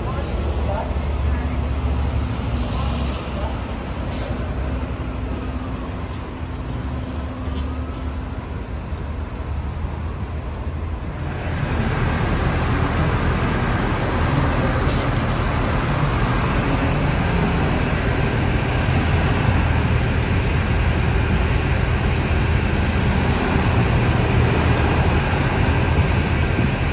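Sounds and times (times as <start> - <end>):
bus and traffic rumble: 0.0 - 26.9.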